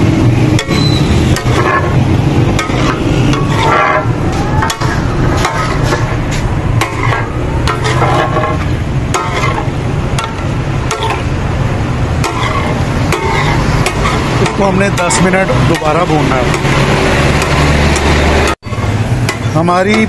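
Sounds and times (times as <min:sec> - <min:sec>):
steady low rumble: 0:00.0 - 0:16.8
frying sizzle: 0:00.0 - 0:20.0
metal spatulas clacking on griddle: 0:00.5 - 0:01.9, 0:02.5 - 0:11.3, 0:12.2 - 0:16.8, 0:17.4 - 0:20.0.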